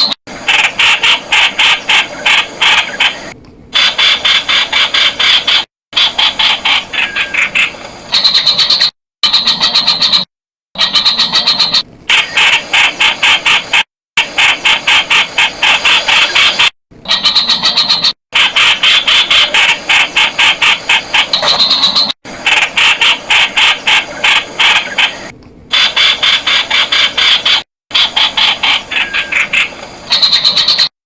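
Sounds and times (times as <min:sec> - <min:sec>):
bird calling with harsh notes: 0:00.0 - 0:12.5, 0:15.9 - 0:22.2, 0:22.8 - 0:31.0.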